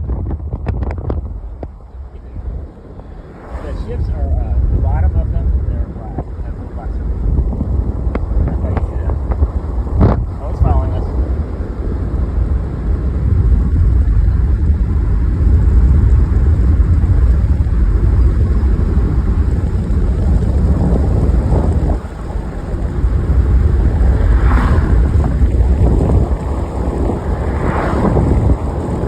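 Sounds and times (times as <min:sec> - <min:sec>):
car road noise: 0:00.0 - 0:29.0
wind buffeting microphone: 0:00.0 - 0:29.0.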